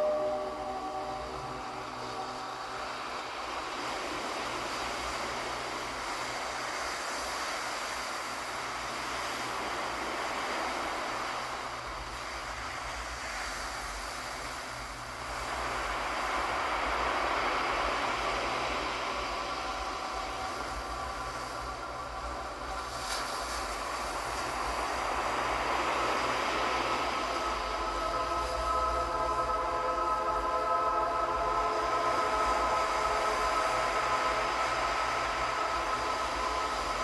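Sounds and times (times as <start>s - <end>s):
ocean waves washing in: 0.0s - 37.0s
soft ambient music: 0.0s - 37.0s.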